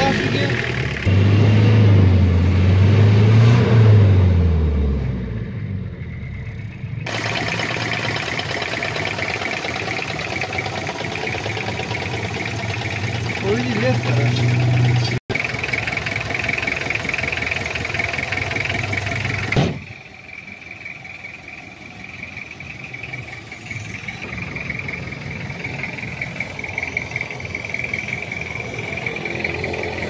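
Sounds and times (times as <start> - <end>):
diesel engine idling: 0.0 - 2.8, 5.3 - 30.0.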